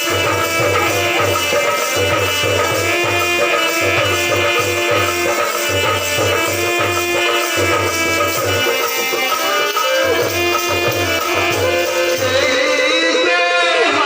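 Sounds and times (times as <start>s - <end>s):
steady low drum beat: 0.0s - 12.4s
held melodic tones: 0.0s - 13.9s.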